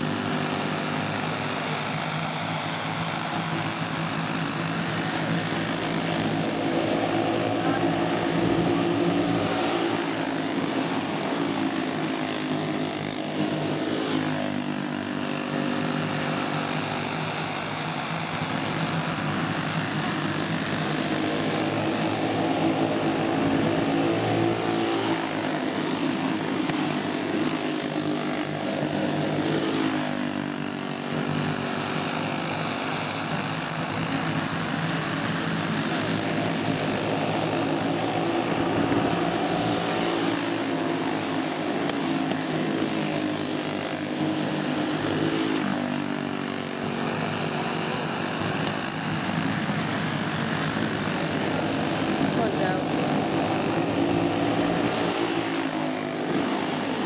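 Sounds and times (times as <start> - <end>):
racing kart engines droning: 0.0 - 57.0.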